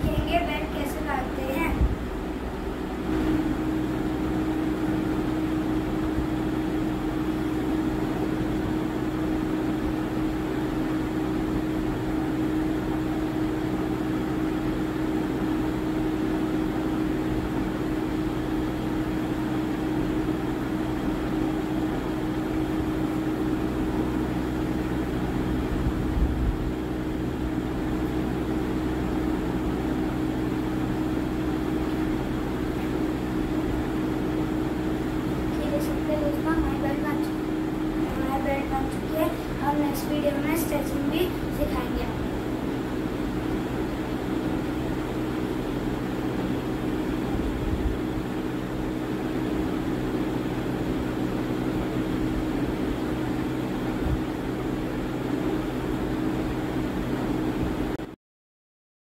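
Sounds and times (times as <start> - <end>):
steady machine hum: 0.0 - 58.1.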